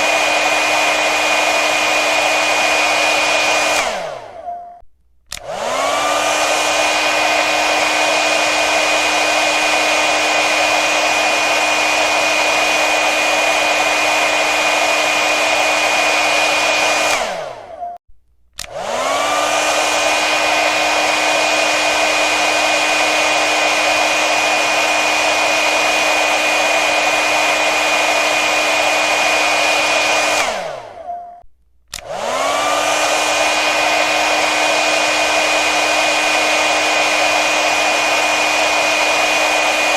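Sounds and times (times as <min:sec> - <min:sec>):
hair dryer running: 0:00.0 - 0:04.5, 0:05.3 - 0:17.8, 0:18.6 - 0:31.2, 0:31.9 - 0:39.9.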